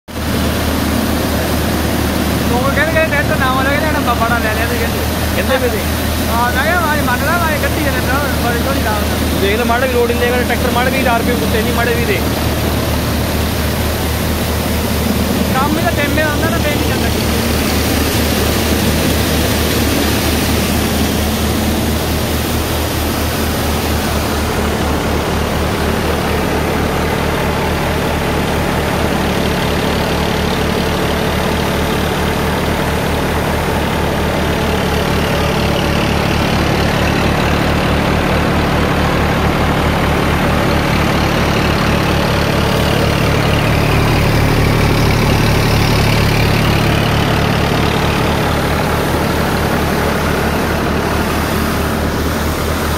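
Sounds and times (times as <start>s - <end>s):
grain thresher hiss and rattle: 0.1s - 52.9s
tractor diesel engine running: 0.1s - 52.9s.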